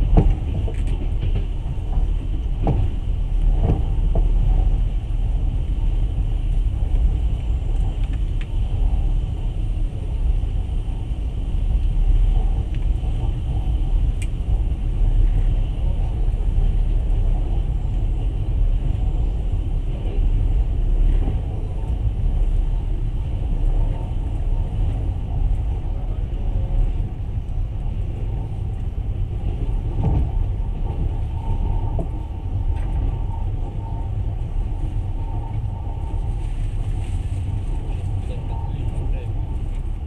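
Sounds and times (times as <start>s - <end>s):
train rumbling on track: 0.0s - 40.0s.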